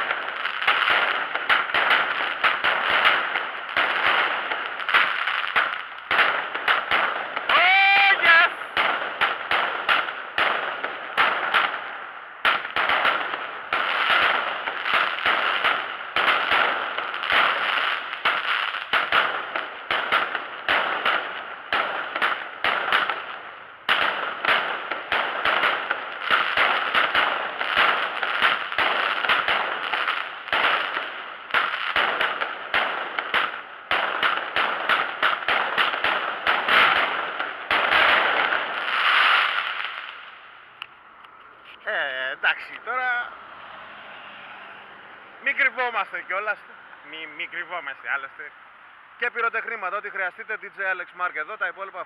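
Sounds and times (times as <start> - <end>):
fireworks bangs and crackling: 0.0 - 44.2, 45.4 - 48.6.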